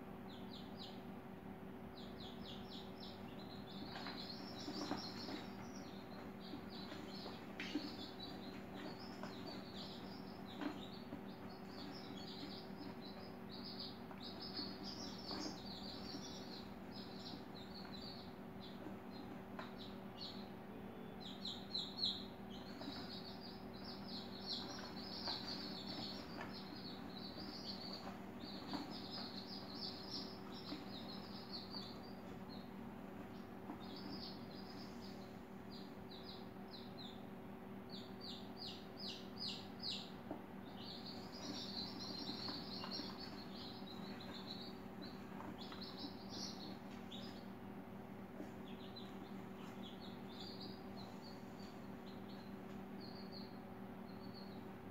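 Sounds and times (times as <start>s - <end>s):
small birds chirping: 0.0s - 54.9s
steady low hum: 0.0s - 54.9s.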